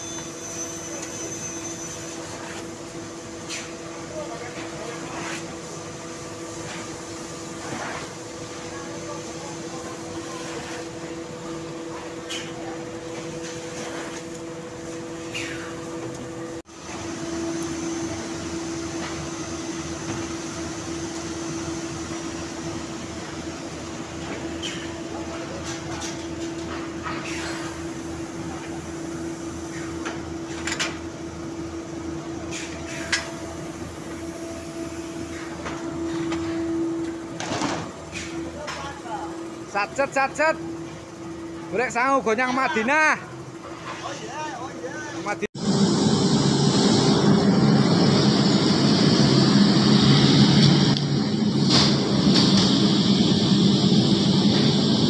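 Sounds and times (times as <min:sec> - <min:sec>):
mill machinery humming: 0:00.0 - 0:55.0.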